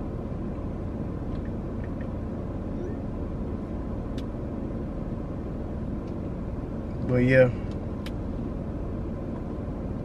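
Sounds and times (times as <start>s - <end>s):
air conditioning blowing: 0.0s - 10.0s
car engine running: 0.0s - 10.0s.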